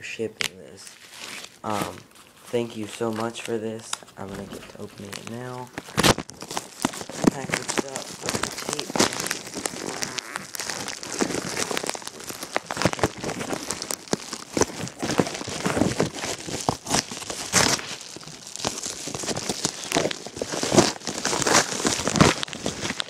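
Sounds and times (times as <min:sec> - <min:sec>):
wrapping crinkling: 0:00.0 - 0:23.0
tape ripping: 0:00.4 - 0:23.0.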